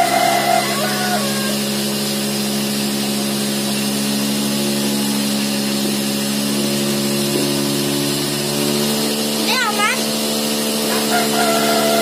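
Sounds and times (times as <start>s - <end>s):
cotton candy machine motor hum: 0.0s - 12.0s.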